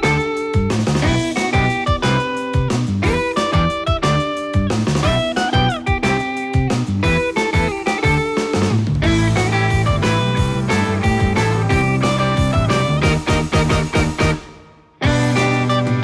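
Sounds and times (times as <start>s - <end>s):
guitar music with steady beat: 0.0s - 16.0s.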